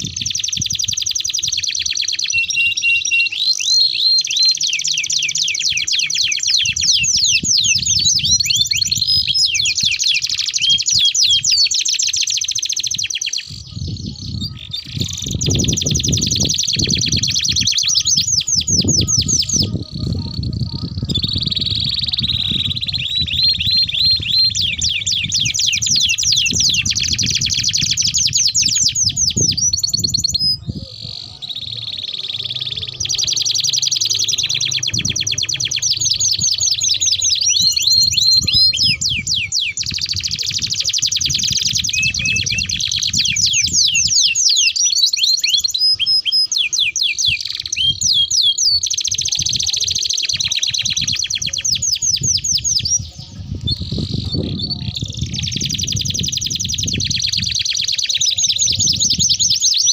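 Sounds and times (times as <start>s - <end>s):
canaries singing trills: 0.0s - 59.9s.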